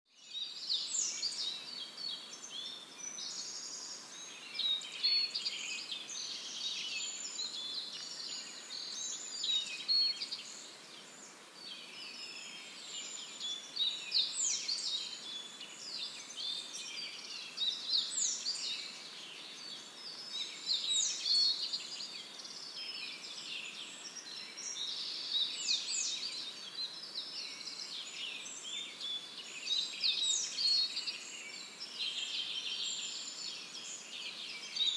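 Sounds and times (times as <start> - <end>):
birds chirping and twittering: 0.1 - 34.9.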